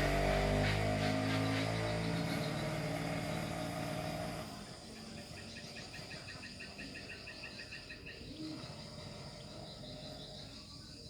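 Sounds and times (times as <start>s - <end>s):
insects chirping in trills: 0.0s - 11.0s.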